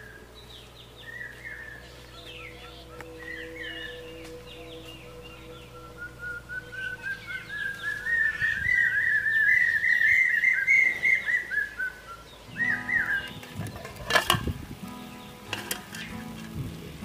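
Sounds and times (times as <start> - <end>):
bird whistling: 0.0 - 14.1.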